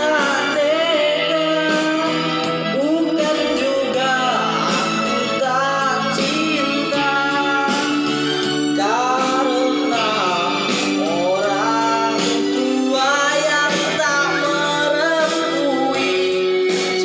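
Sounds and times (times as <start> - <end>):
instrumental accompaniment: 0.0 - 17.0
person singing: 0.0 - 17.0.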